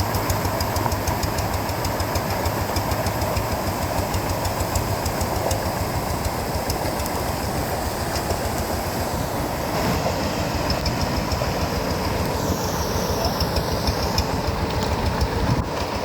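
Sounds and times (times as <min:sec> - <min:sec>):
tractor diesel engine pulsing: 0:00.0 - 0:16.0.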